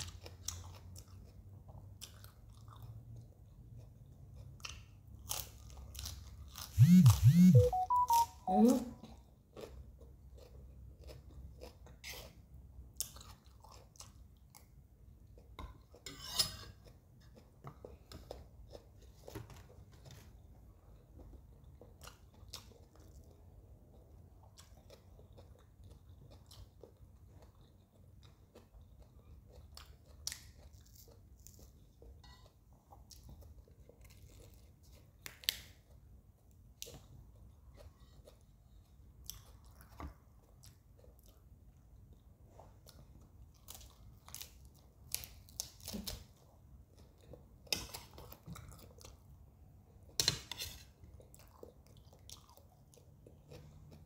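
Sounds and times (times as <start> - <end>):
chewing food: 0.0 - 8.2, 9.0 - 16.0, 16.7 - 50.2, 50.8 - 54.0.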